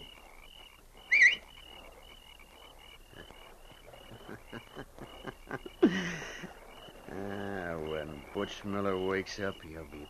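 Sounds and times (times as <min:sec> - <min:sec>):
background chirping: 0:00.0 - 0:10.0.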